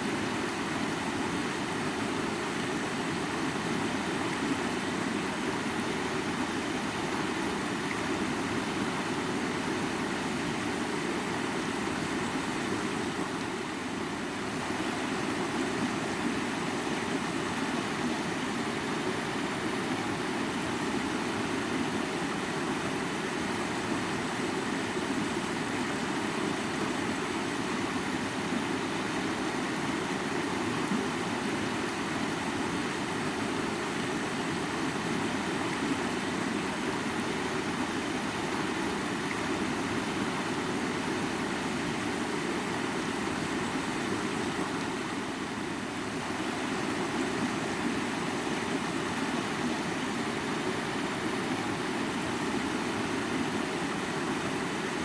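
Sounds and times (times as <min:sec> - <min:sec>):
river rushing: 0:00.0 - 0:55.0.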